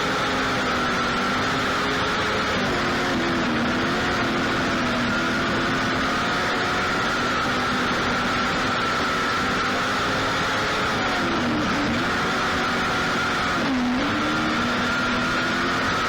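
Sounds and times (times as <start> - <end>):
race car engines running: 0.0 - 16.0.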